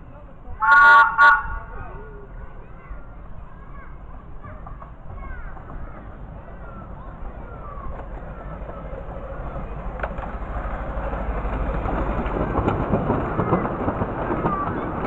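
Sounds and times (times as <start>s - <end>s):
miniature train running: 0.0s - 15.0s.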